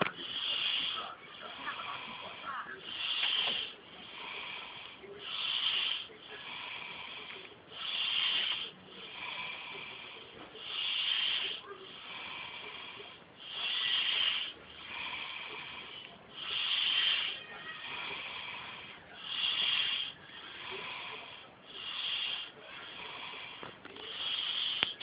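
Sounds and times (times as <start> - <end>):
man snoring: 0.0 - 25.0.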